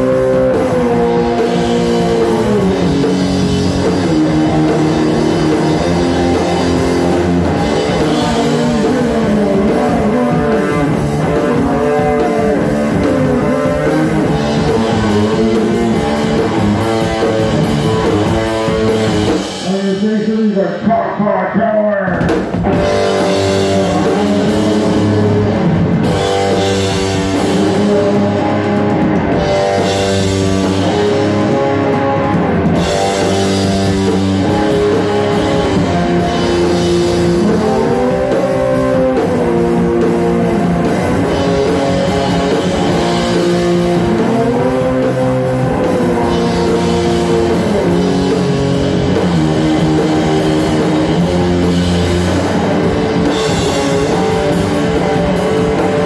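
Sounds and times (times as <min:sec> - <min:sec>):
drums: 0:00.0 - 0:56.0
electric guitar with pitch bends: 0:00.0 - 0:56.0.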